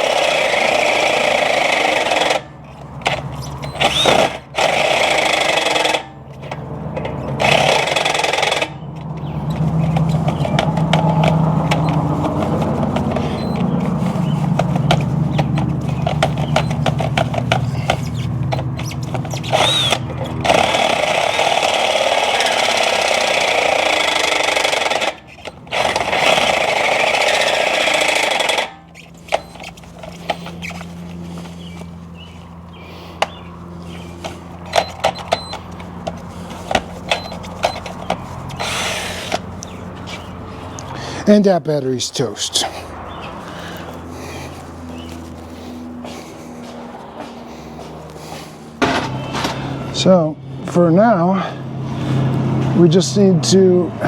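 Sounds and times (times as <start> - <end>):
cordless power tool running: 0.0 - 41.3, 42.4 - 54.0.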